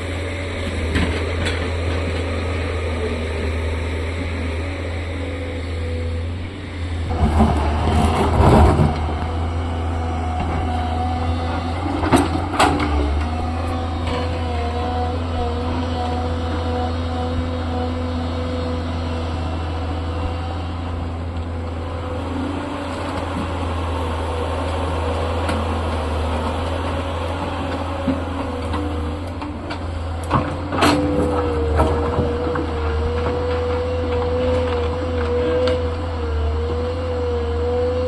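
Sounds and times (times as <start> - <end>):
excavator diesel engine: 0.0 - 38.0
hydraulic whine: 0.0 - 38.0.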